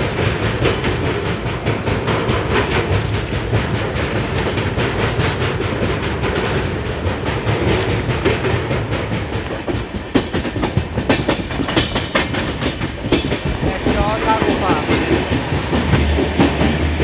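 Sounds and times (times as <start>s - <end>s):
train coach rumble: 0.0s - 17.0s
wheels clattering over rail joints: 0.0s - 17.0s.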